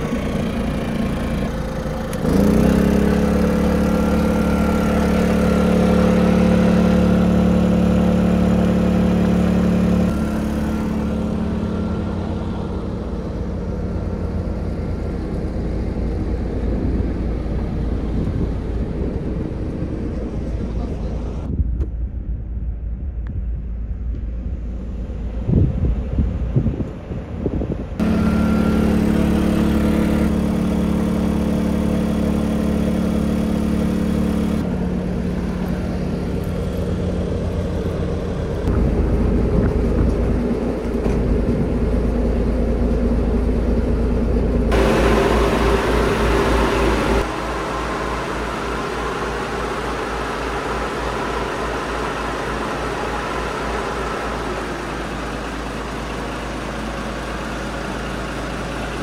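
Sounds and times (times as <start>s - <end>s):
boat diesel engine idling: 0.0s - 21.5s, 28.0s - 59.0s
portable generator running: 0.0s - 21.5s, 28.0s - 59.0s.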